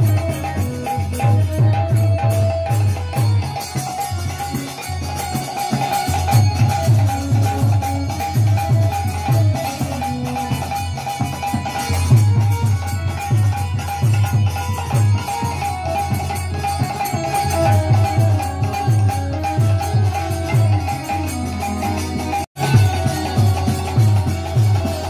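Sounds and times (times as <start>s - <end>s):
harmonium tone: 0.0s - 25.0s
high jingling percussion: 0.0s - 25.0s.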